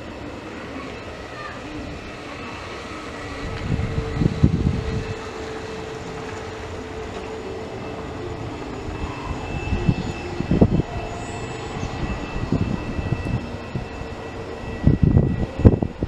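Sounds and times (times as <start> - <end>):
jet engines whining at taxi: 0.0 - 16.0.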